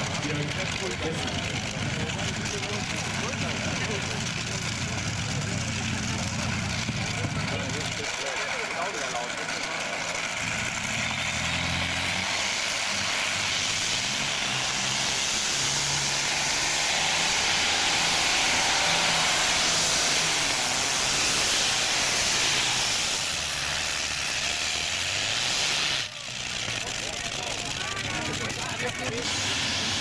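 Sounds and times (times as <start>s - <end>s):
engine roaring under load: 0.0s - 30.0s.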